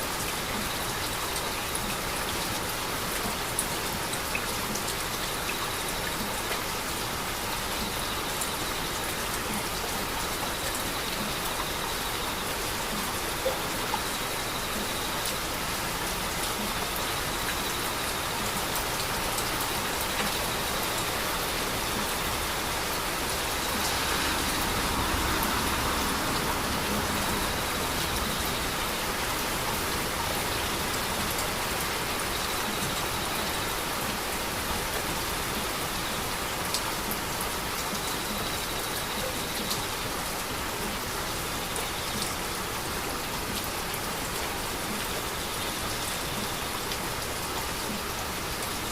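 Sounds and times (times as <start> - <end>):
heavy rain pattering: 0.0 - 48.9.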